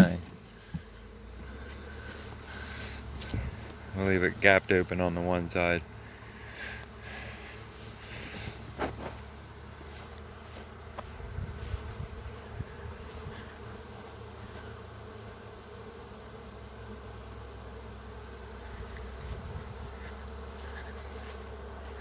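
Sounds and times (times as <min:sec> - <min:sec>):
bee swarm buzzing: 0:00.0 - 0:22.0.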